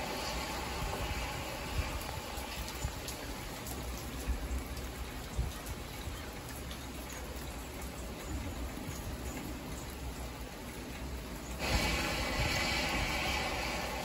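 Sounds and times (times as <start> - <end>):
rain hitting car windshield and roof: 0.0 - 14.0
tyres rumbling on wet pavement: 0.0 - 14.0.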